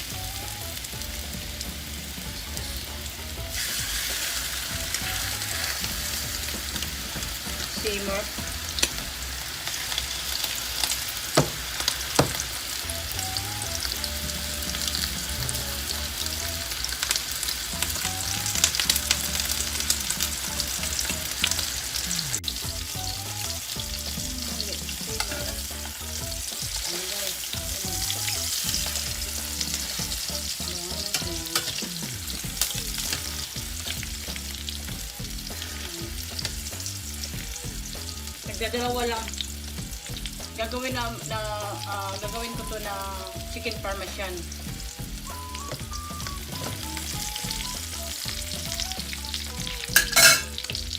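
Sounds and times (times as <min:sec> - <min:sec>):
chicken sizzling in oil: 0:00.0 - 0:50.9.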